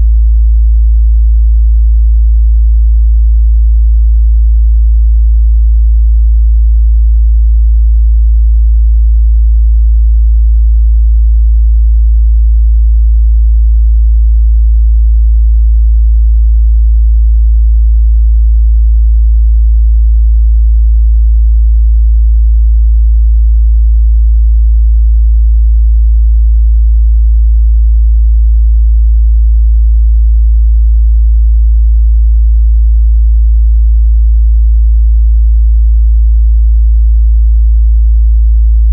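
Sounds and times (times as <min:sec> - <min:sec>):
low sine-wave test tone: 0:00.0 - 0:38.9.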